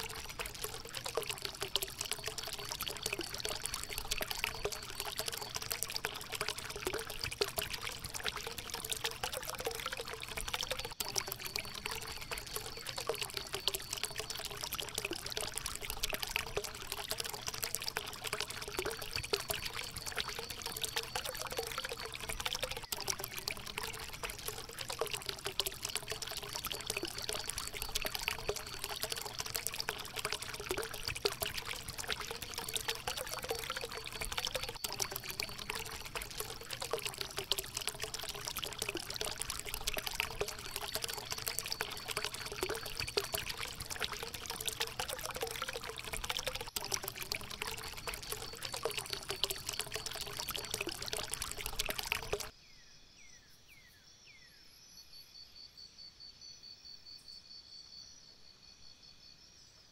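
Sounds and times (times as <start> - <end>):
stream splashing over rocks: 0.0 - 52.5.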